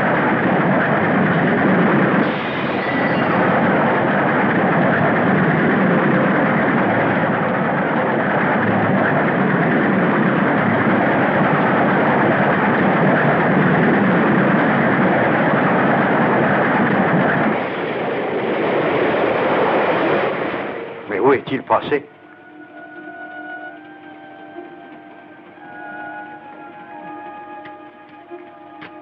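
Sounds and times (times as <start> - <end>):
steam train rushing at speed: 0.0 - 29.0.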